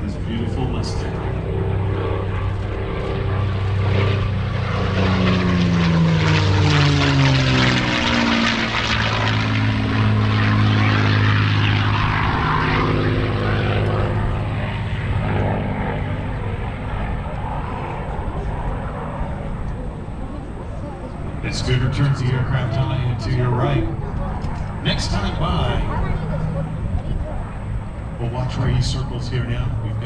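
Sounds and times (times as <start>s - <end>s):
propeller plane engine passing: 0.0s - 30.0s.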